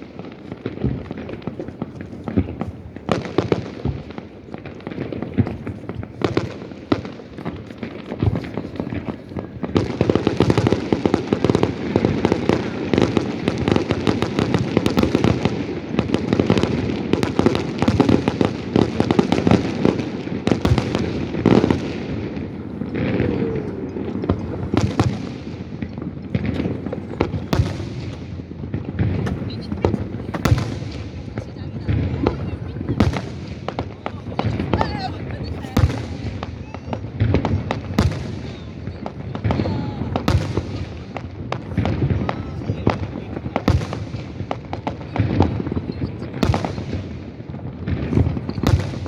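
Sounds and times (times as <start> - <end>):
fireworks banging and crackling: 0.0 - 49.0.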